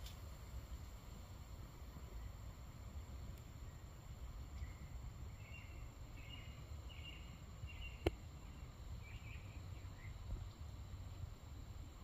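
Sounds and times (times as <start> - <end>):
small bird chirping faintly: 1.8 - 12.0.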